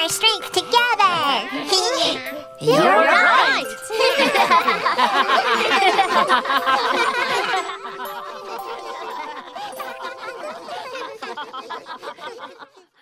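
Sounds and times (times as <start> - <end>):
light background music: 0.0 - 12.3
cartoon voices laughing and chattering: 2.0 - 13.0.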